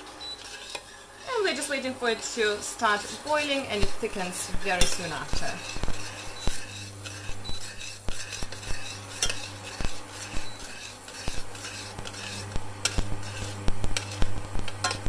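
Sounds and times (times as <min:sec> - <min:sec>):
steady low hum: 0:00.0 - 0:15.0
metal spoon scraping saucepan: 0:00.2 - 0:15.0.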